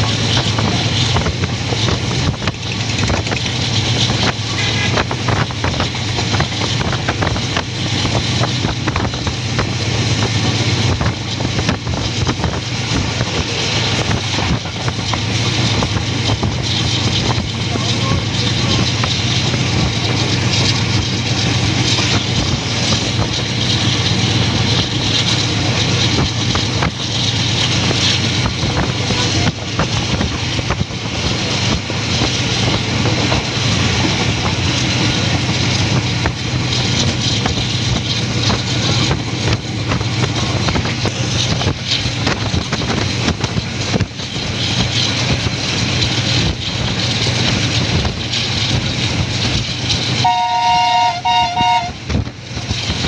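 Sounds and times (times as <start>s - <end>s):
rushing air: 0.0s - 53.0s
train wheels rumbling on track: 0.0s - 53.0s.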